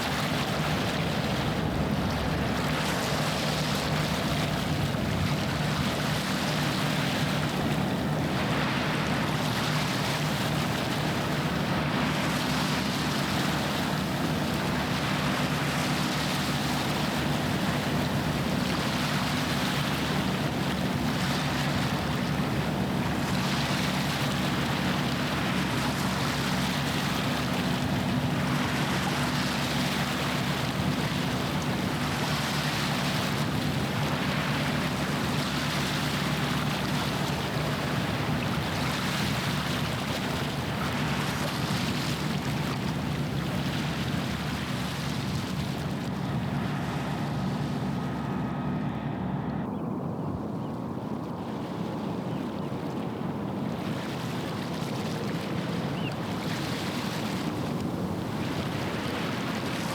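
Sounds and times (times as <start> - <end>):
water washing against shore: 0.0 - 49.0, 51.0 - 59.9
ship engine droning: 0.0 - 59.9.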